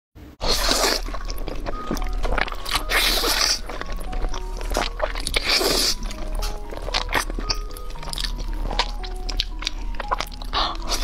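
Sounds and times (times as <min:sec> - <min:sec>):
soft background music: 0:00.3 - 0:11.0
loud noodle slurping: 0:00.4 - 0:11.0.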